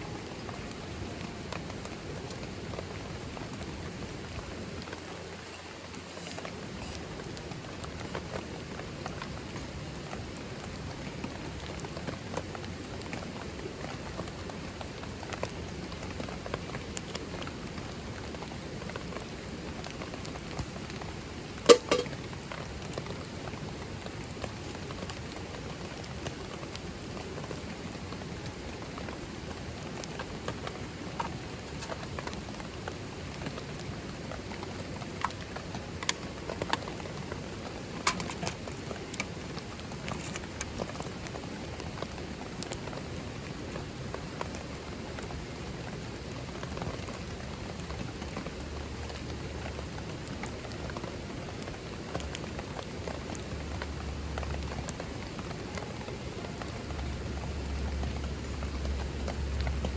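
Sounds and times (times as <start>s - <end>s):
rain drops ticking: 0.0s - 59.9s
steady rain: 0.0s - 59.9s.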